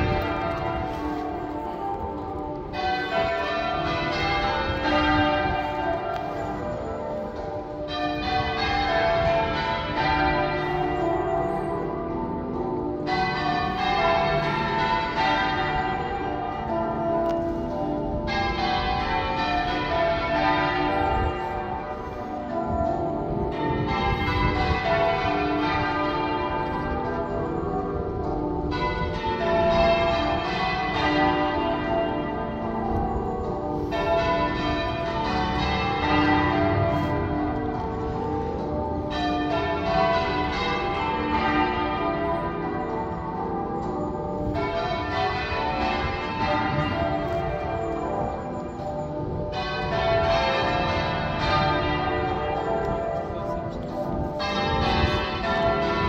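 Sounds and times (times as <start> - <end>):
half-muffled church bells ringing: 0.0 - 56.0.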